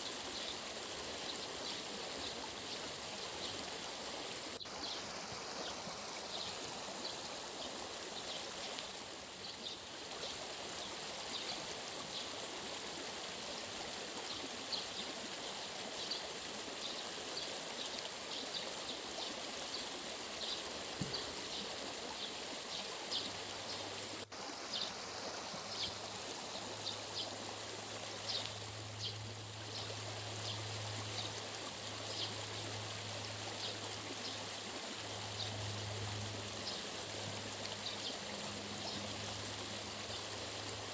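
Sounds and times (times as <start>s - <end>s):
flowing stream water: 0.0s - 40.9s.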